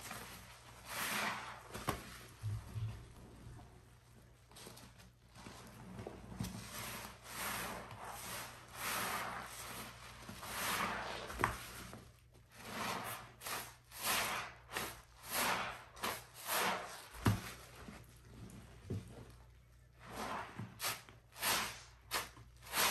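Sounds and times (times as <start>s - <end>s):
wet foamy sponge squelch: 0.0s - 3.0s, 5.3s - 18.8s, 19.9s - 22.9s.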